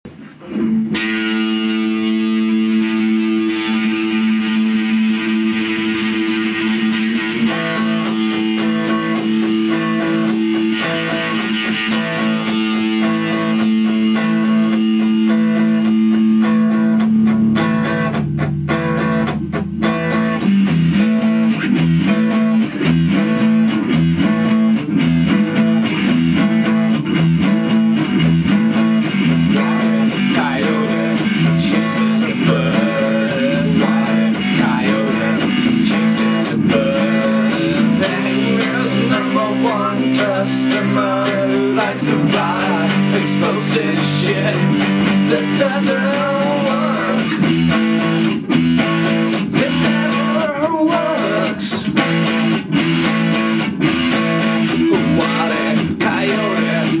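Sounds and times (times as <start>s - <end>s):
electric and acoustic guitars: 0.0s - 57.0s.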